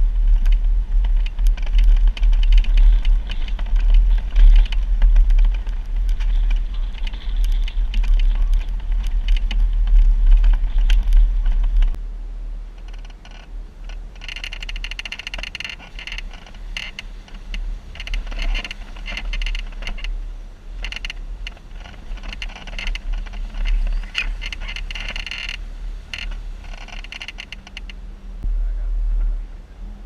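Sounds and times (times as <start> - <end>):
vehicle rattling and clattering: 0.0 - 12.0, 12.8 - 28.5
vehicle engine rumble: 0.0 - 30.0.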